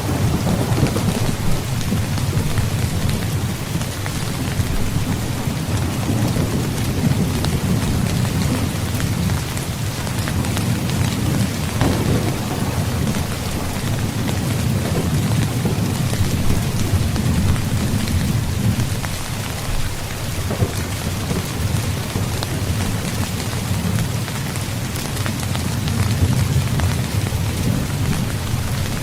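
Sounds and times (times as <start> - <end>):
heavy rain: 0.0 - 29.0
rumbling thunder: 0.0 - 29.0.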